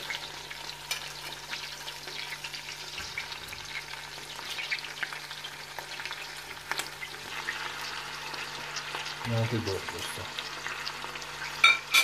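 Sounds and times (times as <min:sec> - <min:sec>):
oil sizzling with onions: 0:00.0 - 0:12.0.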